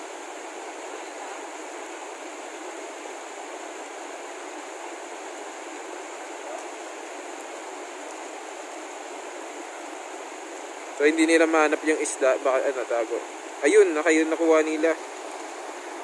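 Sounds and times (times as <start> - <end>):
rocky stream rushing: 0.0 - 16.0.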